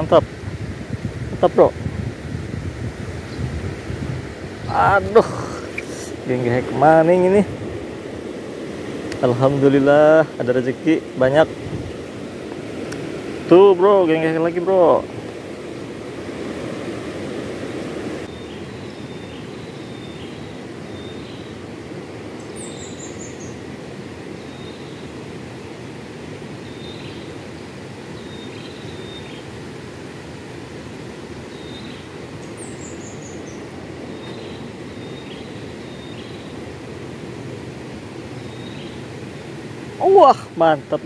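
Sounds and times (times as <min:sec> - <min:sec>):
river water rushing: 0:00.0 - 0:41.0
birds chirping: 0:02.9 - 0:25.4, 0:26.5 - 0:29.6, 0:31.4 - 0:41.0.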